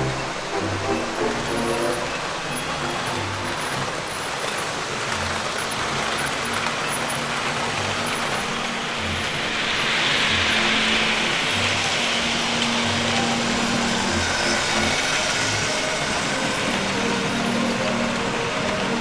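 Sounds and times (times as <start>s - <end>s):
model train wheels rumbling: 0.0s - 19.0s.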